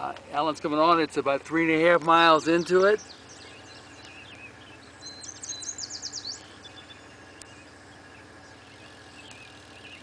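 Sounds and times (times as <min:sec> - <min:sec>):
birds chirping: 0:00.0 - 0:10.0
songbird singing: 0:00.0 - 0:10.0
steady low hum: 0:00.0 - 0:10.0.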